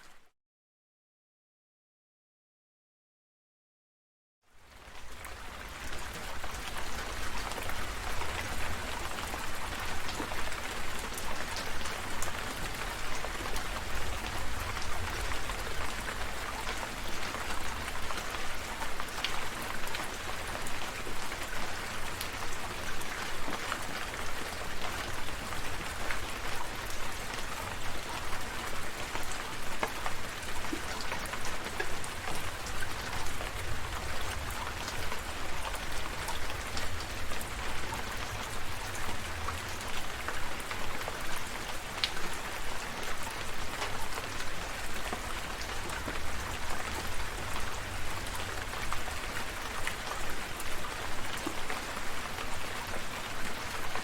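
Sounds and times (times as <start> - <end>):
rain drops pattering: 4.5 - 54.0.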